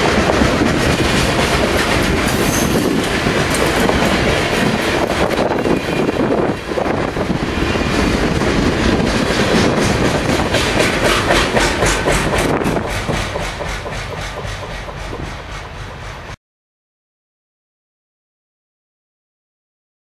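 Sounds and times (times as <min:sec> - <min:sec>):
freight train rumbling past: 0:00.0 - 0:16.4
wheels clacking over rail joints: 0:00.0 - 0:16.4.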